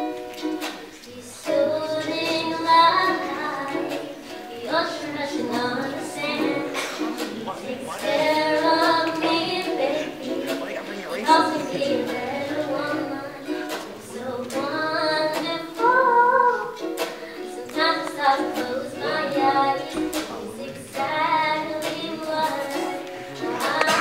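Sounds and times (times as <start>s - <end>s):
ukulele strumming: 0.0s - 24.0s
woman singing: 0.8s - 24.0s.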